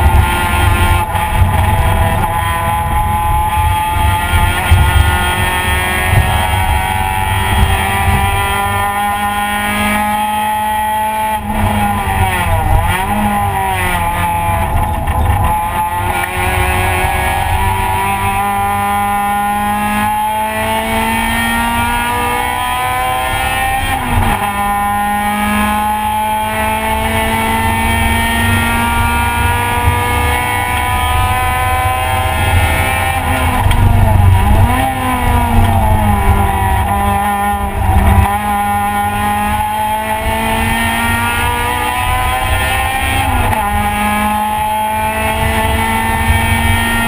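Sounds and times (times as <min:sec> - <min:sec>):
race car engine revving: 0:00.0 - 0:47.0
road rumble: 0:00.0 - 0:47.0.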